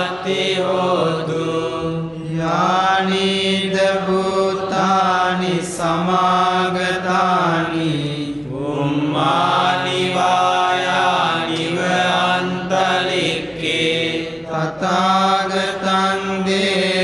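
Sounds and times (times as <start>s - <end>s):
chanting on long held notes: 0.0s - 17.0s.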